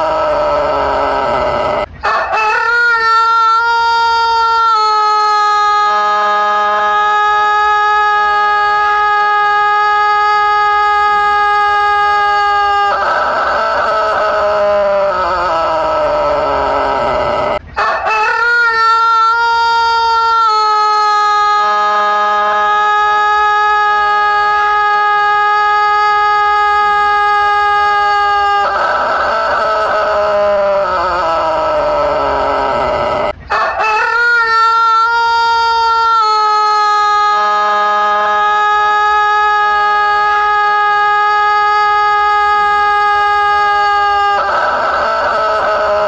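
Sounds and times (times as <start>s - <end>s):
rooster crowing: 0.0s - 46.0s.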